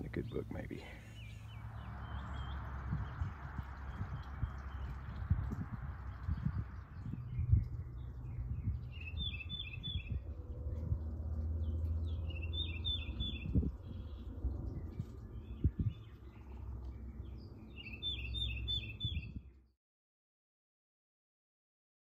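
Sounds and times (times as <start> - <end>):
steady low rumble: 0.0 - 17.9
songbird singing: 0.0 - 19.7.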